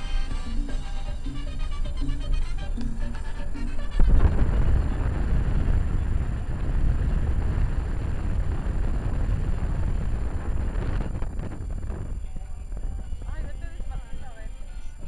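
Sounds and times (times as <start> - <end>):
car road rumble: 0.0 - 15.0
wind on microphone: 0.0 - 15.0.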